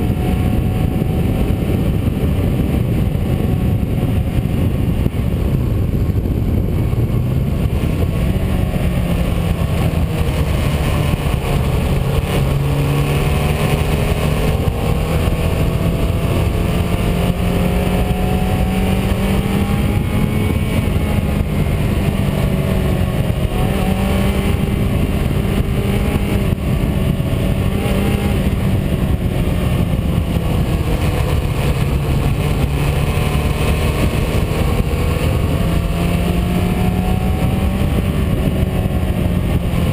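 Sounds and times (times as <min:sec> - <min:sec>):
car engine running: 0:00.0 - 0:39.9
road and wind noise: 0:00.0 - 0:39.9.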